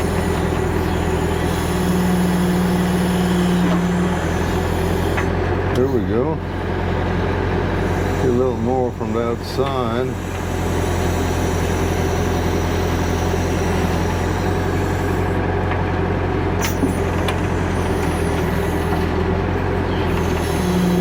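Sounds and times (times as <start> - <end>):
backhoe engine running: 0.0 - 21.0.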